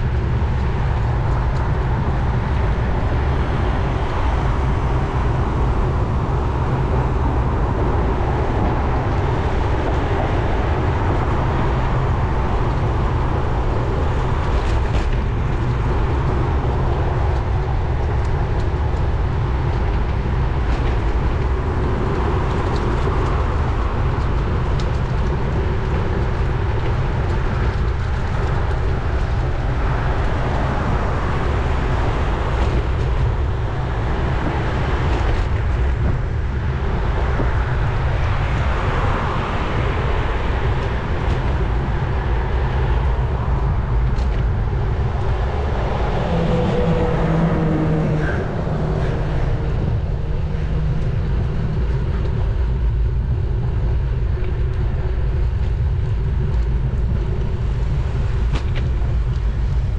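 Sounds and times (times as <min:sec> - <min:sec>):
motor traffic: 0:00.0 - 0:59.9
road rumble: 0:00.0 - 0:59.9
wind rush: 0:00.0 - 0:59.9.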